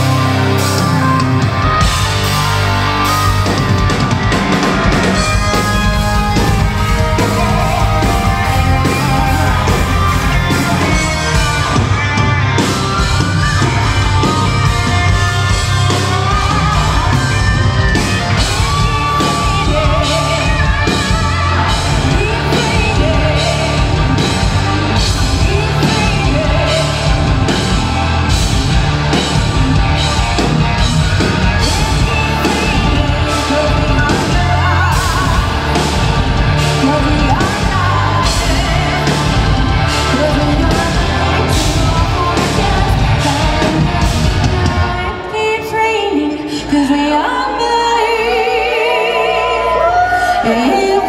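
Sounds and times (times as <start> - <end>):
steady drum beat: 0.0 - 45.0
distorted guitars: 0.0 - 51.0
woman singing lead: 0.0 - 51.0.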